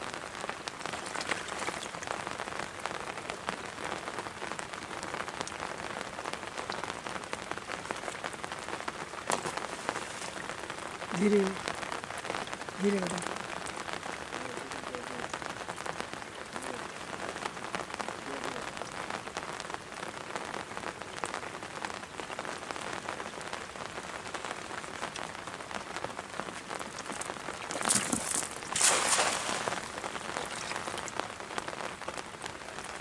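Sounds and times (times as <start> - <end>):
rain falling on water: 0.0 - 33.0.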